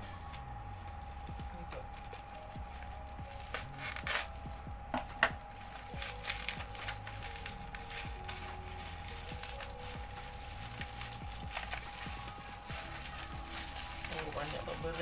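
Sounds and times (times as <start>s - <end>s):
packaging crinkling and tearing: 0.3s - 15.0s.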